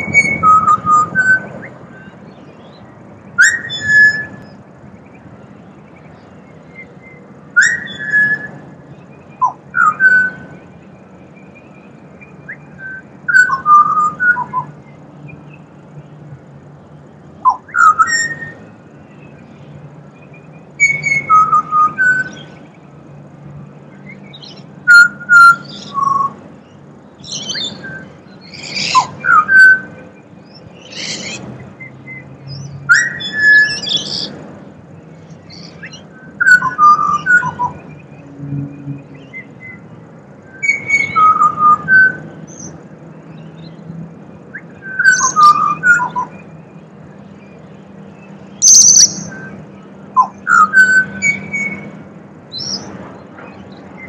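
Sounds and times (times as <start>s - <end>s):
bird singing fluting whistles: 0.0s - 4.6s, 5.4s - 10.7s, 11.3s - 15.6s, 17.4s - 19.3s, 20.2s - 22.7s, 24.0s - 34.3s, 35.2s - 39.8s, 40.4s - 43.8s, 44.5s - 46.5s, 48.6s - 52.9s.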